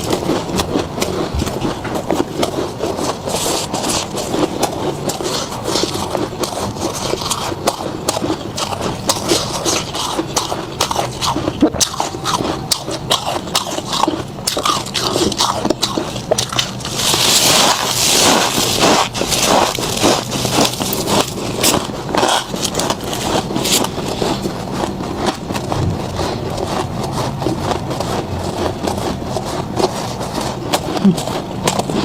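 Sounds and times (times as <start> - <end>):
chewing icy frost crunches: 0.0 - 32.0.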